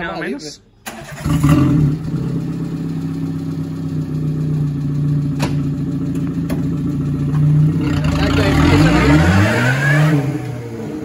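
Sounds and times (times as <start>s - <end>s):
car engine at low revs: 1.3s - 11.0s.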